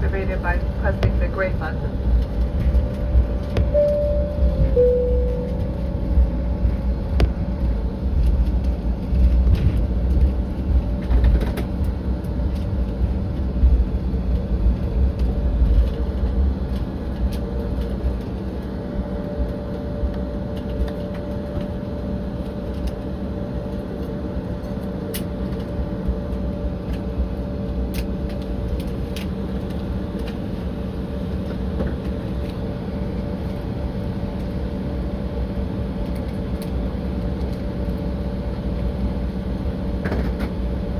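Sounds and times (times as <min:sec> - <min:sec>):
jet engines humming and whining: 0:00.0 - 0:40.9.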